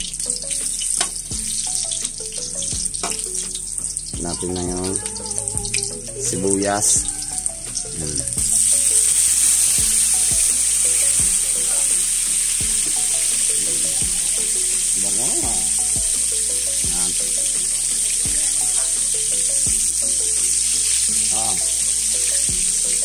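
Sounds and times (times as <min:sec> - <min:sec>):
garlic and onion sizzling in oil: 0:00.0 - 0:23.0.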